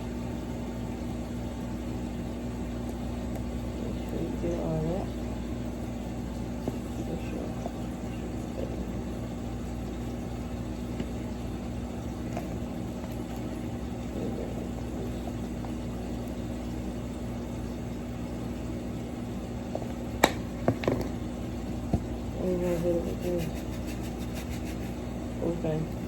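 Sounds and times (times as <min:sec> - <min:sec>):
kitchen appliance humming: 0:00.0 - 0:26.0.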